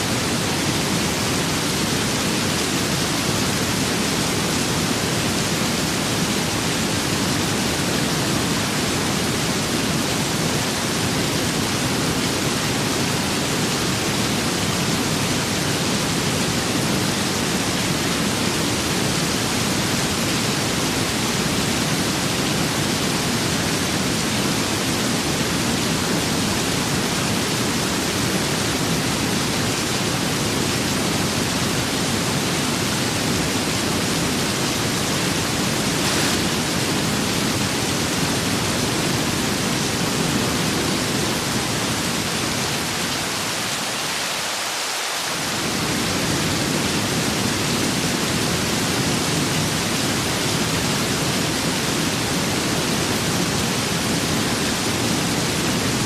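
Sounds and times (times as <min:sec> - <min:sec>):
steady rain with wind: 0:00.0 - 0:56.0.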